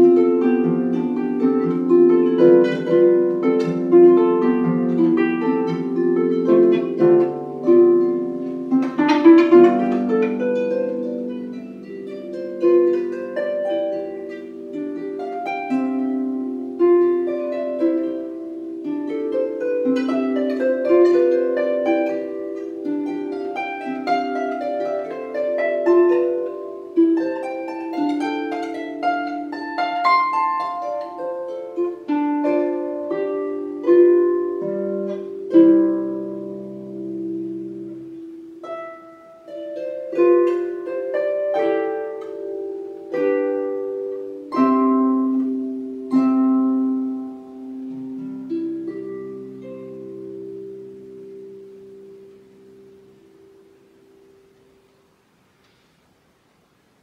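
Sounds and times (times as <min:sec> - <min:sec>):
harp melody: 0:00.0 - 0:55.8.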